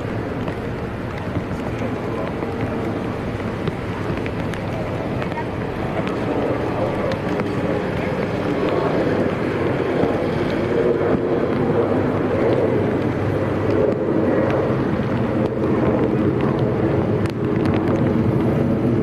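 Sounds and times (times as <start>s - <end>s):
motor droning steadily: 0.0s - 19.0s.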